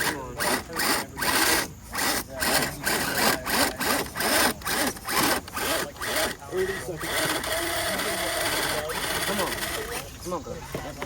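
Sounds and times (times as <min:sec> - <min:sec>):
electric motor whining in bursts: 0:00.0 - 0:10.1.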